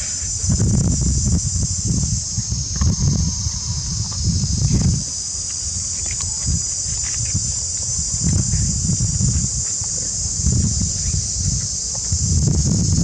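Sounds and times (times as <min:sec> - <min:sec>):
insects droning: 0:00.0 - 0:13.0
wind rumble on microphone: 0:00.0 - 0:13.0.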